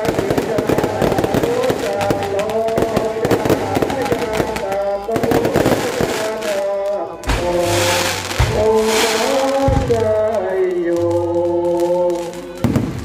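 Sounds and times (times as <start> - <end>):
fireworks crackling bangs: 0.0 - 13.0
music with melody: 0.0 - 13.0.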